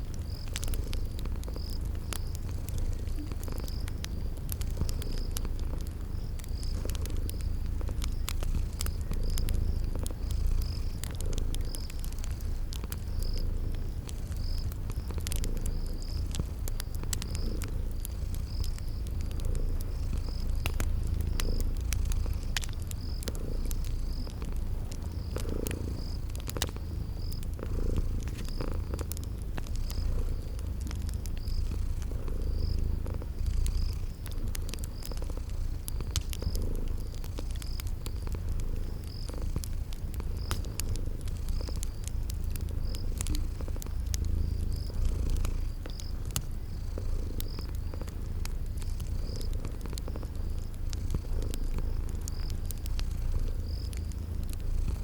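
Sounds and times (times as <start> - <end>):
cat purring: 0.0 - 55.0
cricket chirping: 0.0 - 55.0
fire crackling and popping: 0.0 - 55.0.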